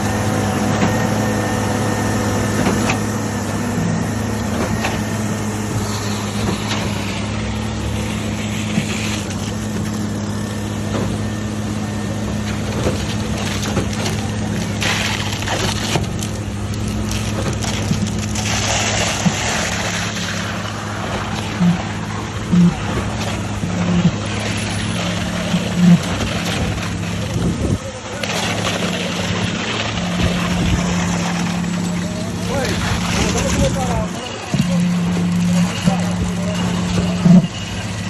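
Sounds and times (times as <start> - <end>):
heavy engine humming: 0.0 - 38.0.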